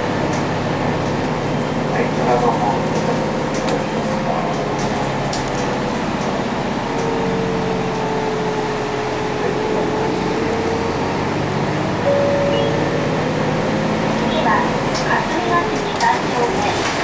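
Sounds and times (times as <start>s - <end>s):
bus diesel engine hum and whine: 0.0s - 17.0s.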